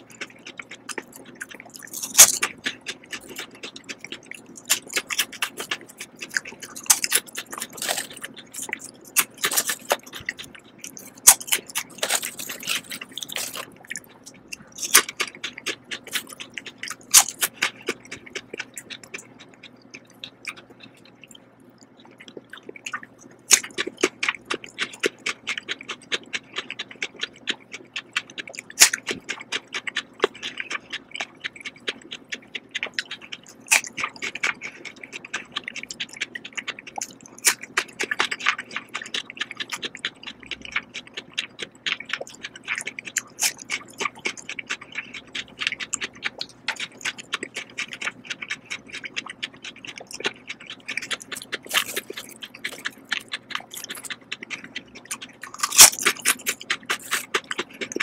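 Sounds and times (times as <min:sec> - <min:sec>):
crunchy fruit chewing: 0:00.0 - 0:58.0.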